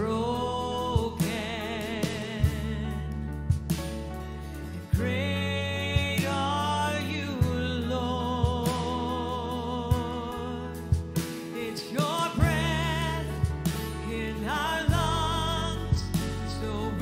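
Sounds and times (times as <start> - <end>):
woman and man singing: 0.0 - 3.2, 4.9 - 10.8, 11.5 - 17.0
worship band playing: 0.0 - 17.0.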